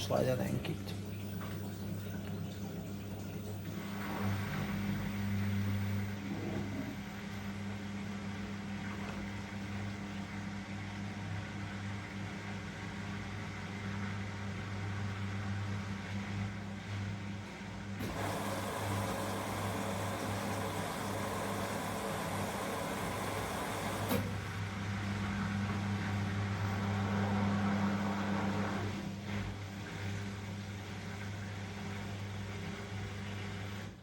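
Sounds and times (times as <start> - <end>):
drain pump humming: 0.0 - 34.0.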